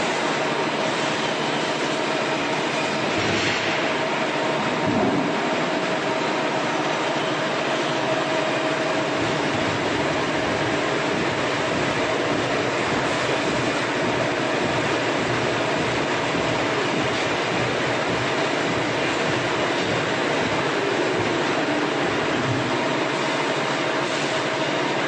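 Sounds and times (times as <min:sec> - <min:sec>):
constant machine hum: 0:00.0 - 0:25.0
peeling lathe and conveyors running: 0:00.0 - 0:25.0.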